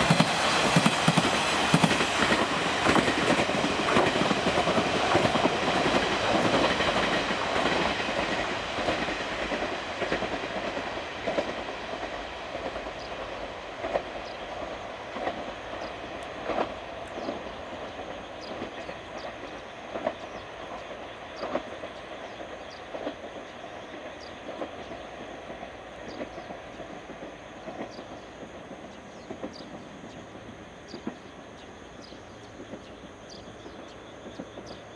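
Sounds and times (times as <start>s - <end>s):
train wheels clacking on rail joints: 0.0s - 34.9s.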